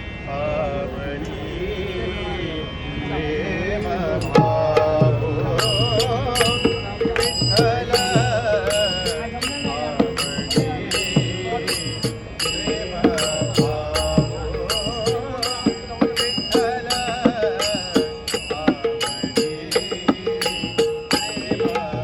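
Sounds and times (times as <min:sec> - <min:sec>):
person singing devotional song: 0:00.0 - 0:22.0
small cymbals ringing: 0:03.9 - 0:22.0.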